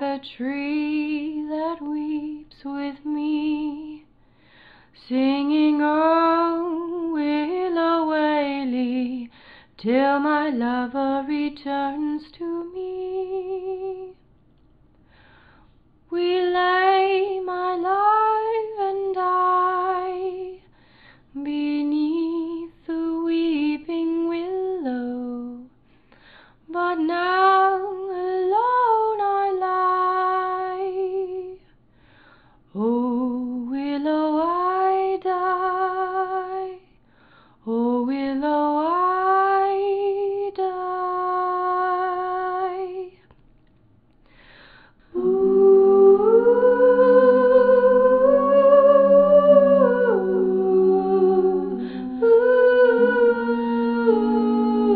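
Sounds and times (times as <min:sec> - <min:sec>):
woman singing wordless melody: 0:00.0 - 0:04.1, 0:05.0 - 0:14.2, 0:16.1 - 0:20.7, 0:21.3 - 0:25.8, 0:26.7 - 0:31.7, 0:32.7 - 0:36.9, 0:37.6 - 0:43.2, 0:45.0 - 0:54.9.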